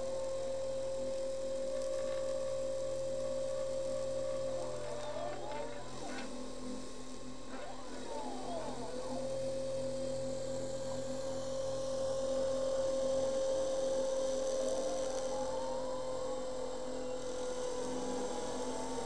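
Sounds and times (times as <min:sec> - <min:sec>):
spindle motor whining: 0:00.0 - 0:19.0
stepper motors whining: 0:00.0 - 0:19.0.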